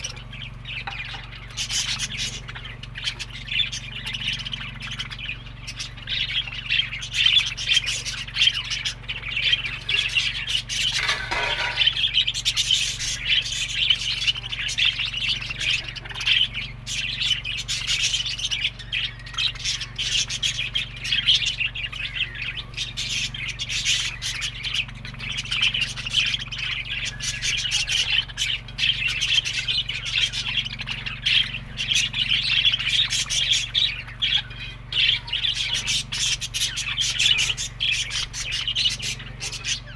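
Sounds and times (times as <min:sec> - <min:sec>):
budgerigars chattering: 0:00.0 - 0:39.9
loud bird call: 0:00.0 - 0:39.9.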